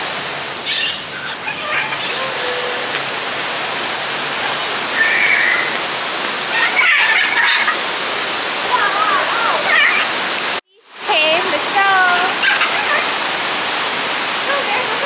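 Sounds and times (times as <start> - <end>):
falling water rushing: 0.0 - 15.0.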